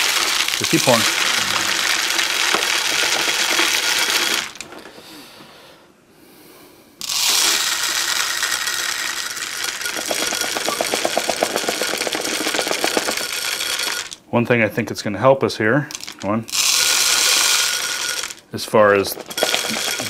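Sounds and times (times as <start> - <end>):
grains ticking: 0.0 - 4.9, 7.0 - 14.2, 15.9 - 20.0
seed pouring into plastic bottle: 0.0 - 5.0, 7.0 - 14.2, 15.9 - 20.0.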